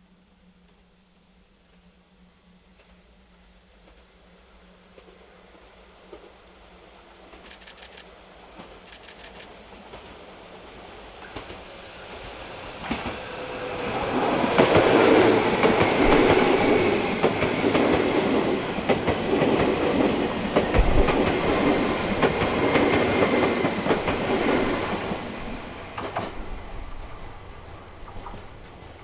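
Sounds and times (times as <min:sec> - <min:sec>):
electric train passing: 0:00.2 - 0:29.0.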